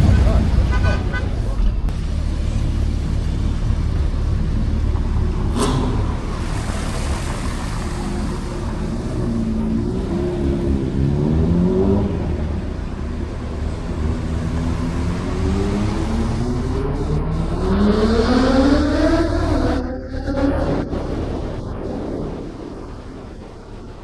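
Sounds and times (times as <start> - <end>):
car engine revving: 1.8 - 24.0.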